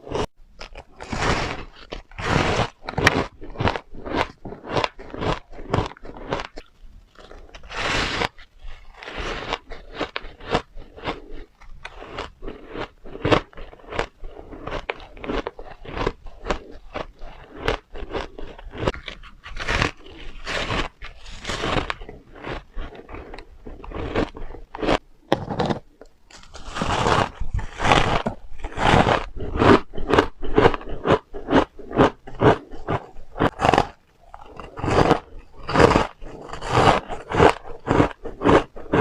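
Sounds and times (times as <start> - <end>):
chewing crunchy ice: 0.0 - 39.0.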